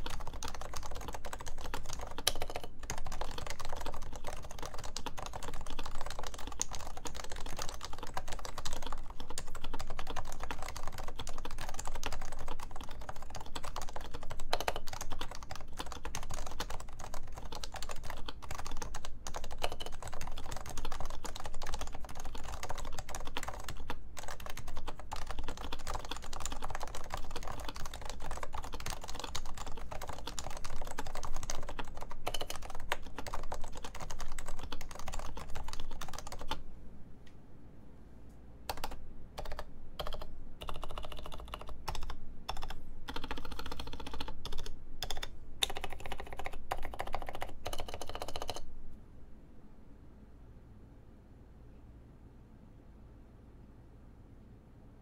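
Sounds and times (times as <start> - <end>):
fast typing on keyboard: 0.0 - 36.6, 38.7 - 48.7.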